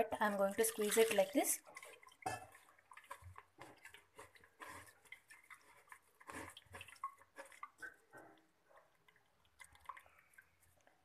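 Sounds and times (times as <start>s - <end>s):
wet squelching and dripping: 0.4s - 11.0s.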